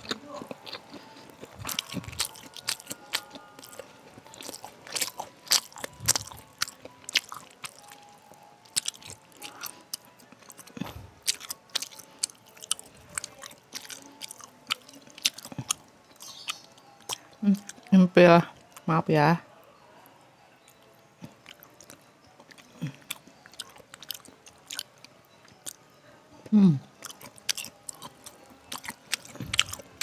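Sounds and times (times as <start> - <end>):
person chewing crunchy food: 0.0 - 17.9, 21.2 - 25.8, 26.9 - 30.0.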